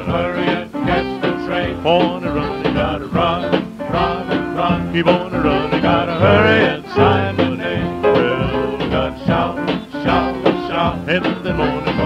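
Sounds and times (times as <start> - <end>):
vocal group rhythm and blues record: 0.0 - 12.0.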